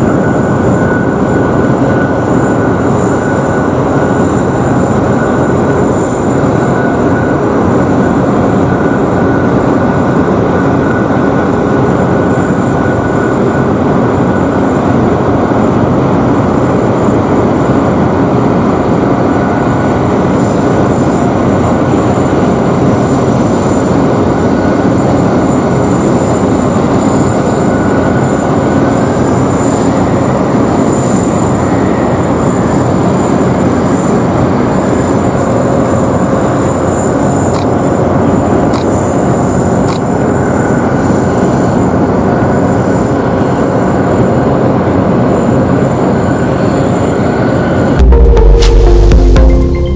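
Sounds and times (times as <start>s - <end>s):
high jet whine: 0.0s - 49.9s
jet engines rumbling: 0.0s - 49.9s.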